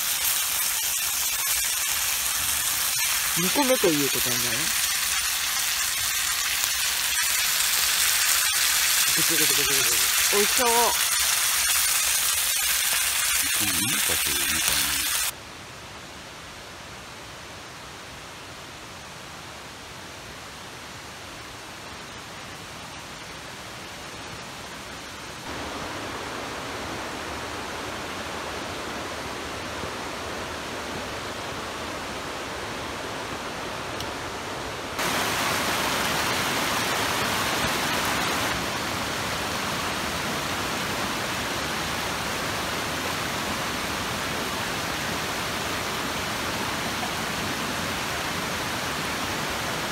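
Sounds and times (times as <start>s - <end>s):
stream running over rocks: 0.0s - 15.4s, 20.7s - 49.9s.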